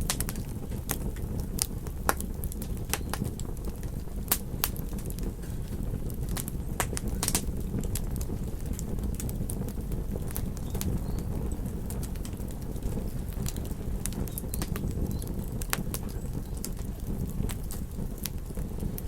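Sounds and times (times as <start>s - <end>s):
low rumble of flames: 0.0s - 19.0s
sharp pops and snaps: 0.0s - 19.0s
wood fire crackling: 0.0s - 19.0s.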